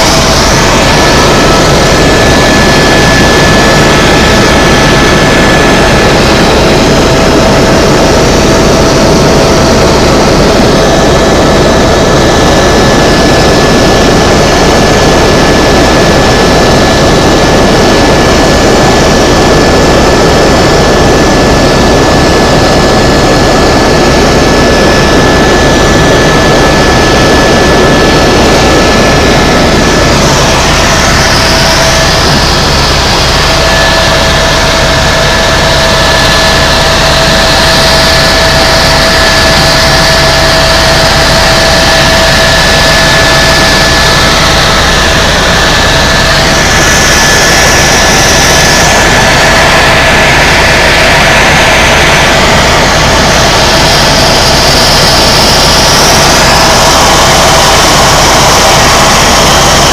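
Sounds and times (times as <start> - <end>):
high whining tones: 0.0 - 17.2, 19.9 - 59.9
helicopter engine and rotor: 0.0 - 59.9.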